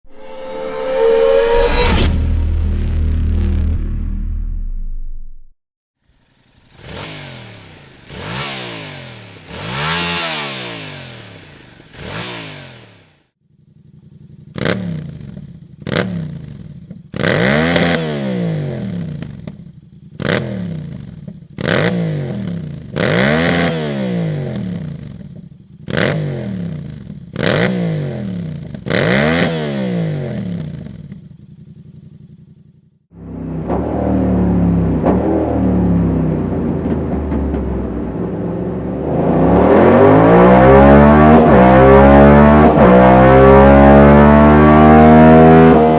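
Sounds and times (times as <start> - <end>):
motorcycle engine revving: 6.0 - 45.9.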